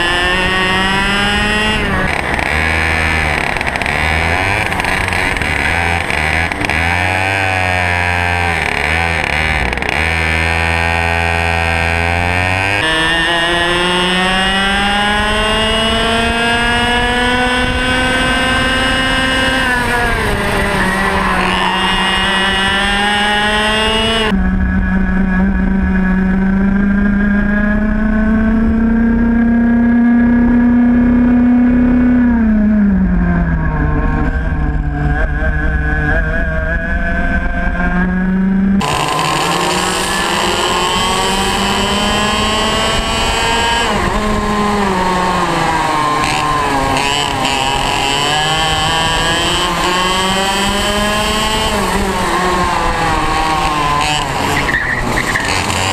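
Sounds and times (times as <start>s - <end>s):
kart engine revving: 0.0s - 55.9s.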